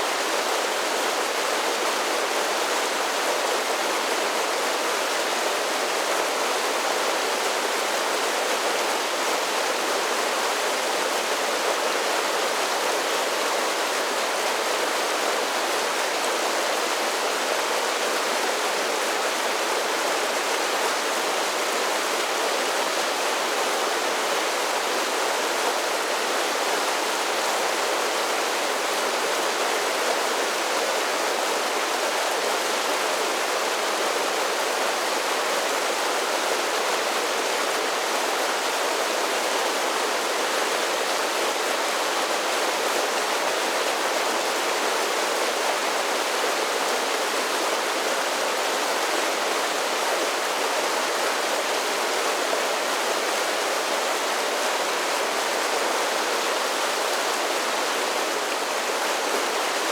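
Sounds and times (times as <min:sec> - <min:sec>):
creek rushing over waterfalls: 0:00.0 - 0:59.9.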